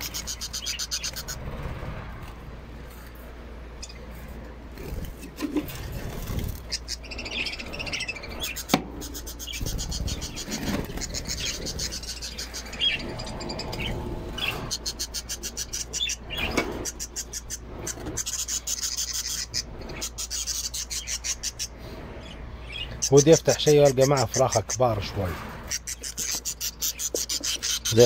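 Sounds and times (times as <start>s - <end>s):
small birds chirping: 0.0s - 2.1s, 2.9s - 28.0s.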